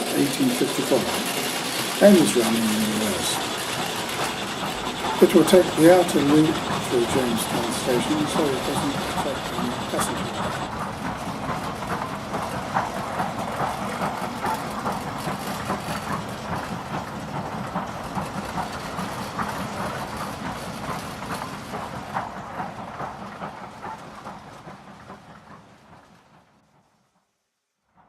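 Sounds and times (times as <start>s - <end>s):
model train wheels clicking: 0.0s - 26.4s.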